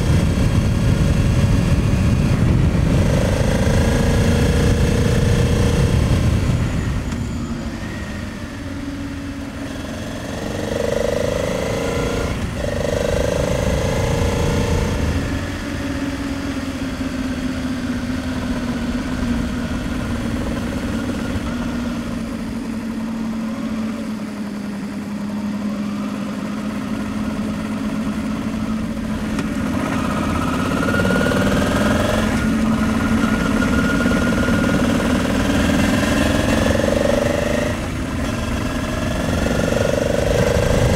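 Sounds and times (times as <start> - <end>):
motorcycle engine running: 0.0 - 40.9
road rumble: 0.0 - 40.9
wind: 0.0 - 40.9.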